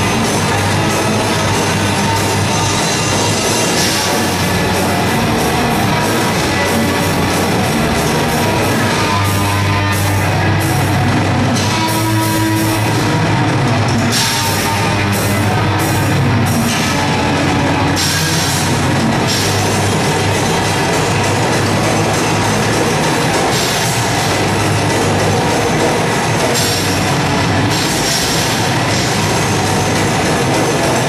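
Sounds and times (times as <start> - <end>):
cymbal crashes: 0.0 - 31.0
distorted electric guitar: 0.0 - 31.0
drum kit: 0.0 - 31.0.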